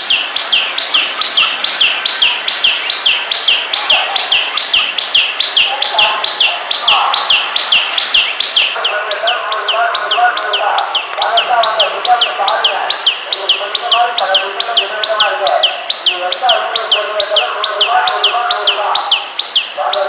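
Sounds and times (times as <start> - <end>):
birds chattering softly: 0.0 - 20.0.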